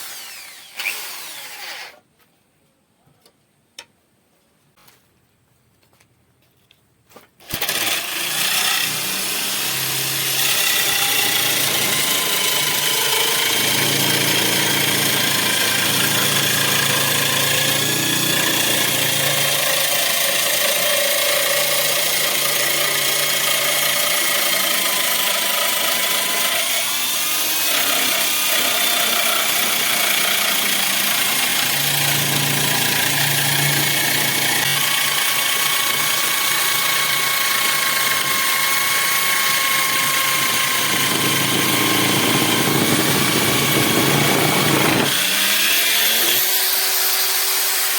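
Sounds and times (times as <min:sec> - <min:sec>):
electric drill whining: 0:00.0 - 0:02.0, 0:07.4 - 0:47.9.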